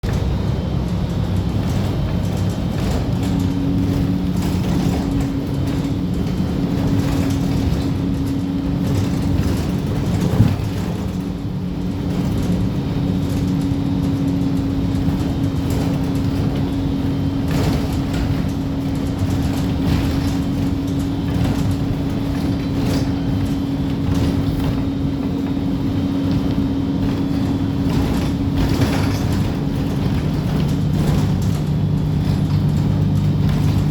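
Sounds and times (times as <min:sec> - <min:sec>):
low engine rumble: 0:00.0 - 0:33.9.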